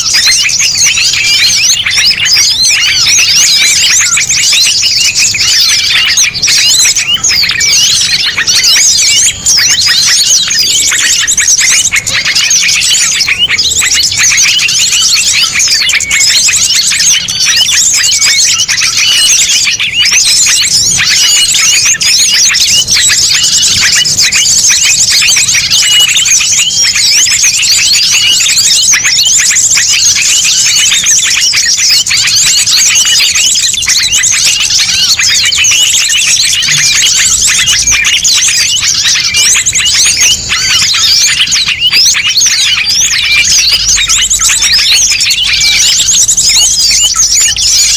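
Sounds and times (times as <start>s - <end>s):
small songbirds chirping: 0.0s - 47.9s.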